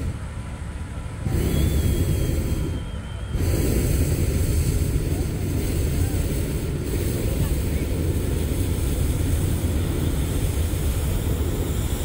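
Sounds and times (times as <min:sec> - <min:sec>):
propane burner firing in blasts: 0:00.0 - 0:12.0.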